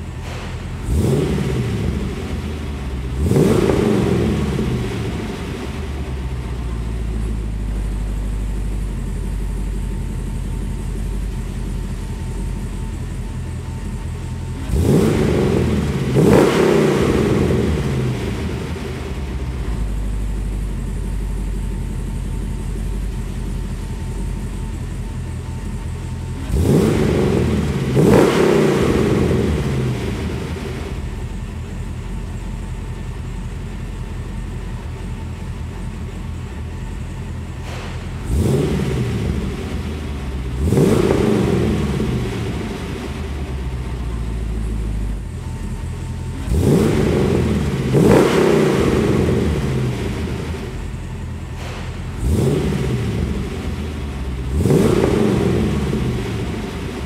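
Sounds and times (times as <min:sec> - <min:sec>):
car engine idling: 0:00.0 - 0:57.0
engine throttle blips: 0:00.0 - 0:57.0.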